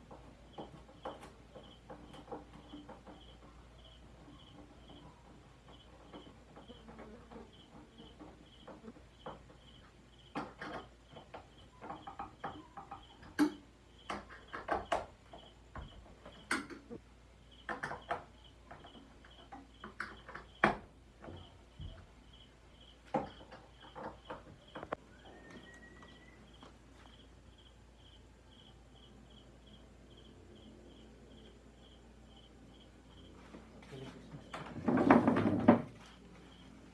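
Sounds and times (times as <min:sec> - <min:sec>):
cricket chirping: 0:00.0 - 0:36.9.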